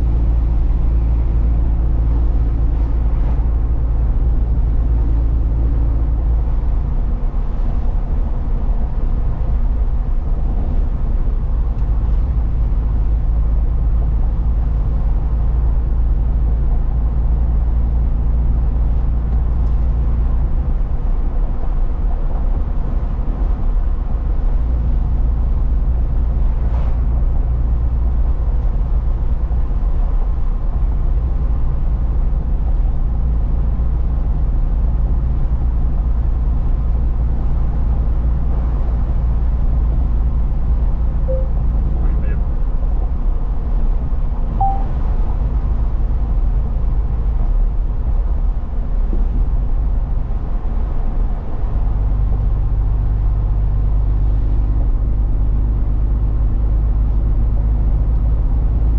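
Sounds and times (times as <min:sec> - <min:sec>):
truck driving: 0:00.0 - 0:55.8.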